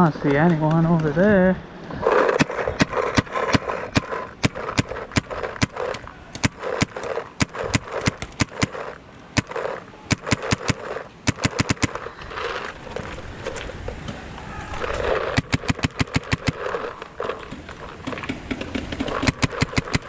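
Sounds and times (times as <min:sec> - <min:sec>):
paintball markers popping: 0:02.0 - 0:14.2, 0:14.8 - 0:20.0.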